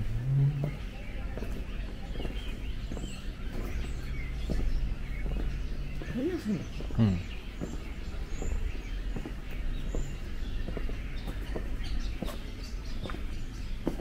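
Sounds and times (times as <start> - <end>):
bird chirps: 0.0 - 14.0
footsteps on stone paving: 0.0 - 14.0
steady low rumble: 0.0 - 14.0.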